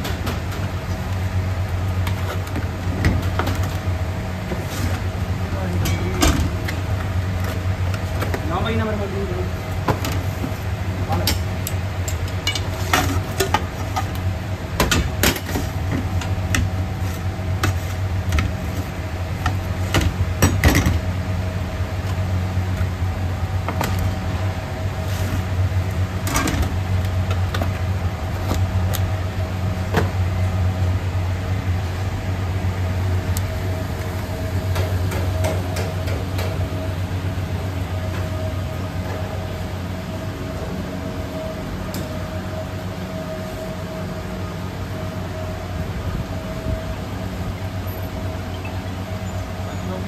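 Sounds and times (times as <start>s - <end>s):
kitchen machinery hum: 0.0s - 50.0s.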